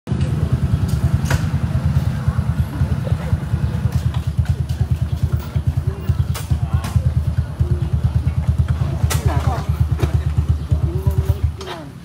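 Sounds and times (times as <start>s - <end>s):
engine idling: 0.1s - 12.0s.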